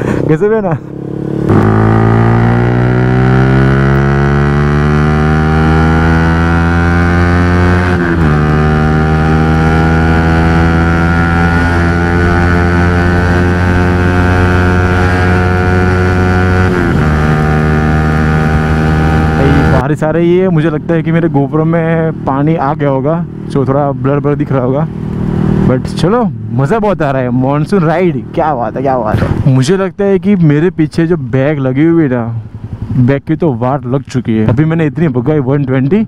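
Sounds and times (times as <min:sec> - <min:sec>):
motorcycle engine accelerating hard: 0:00.0 - 0:29.5.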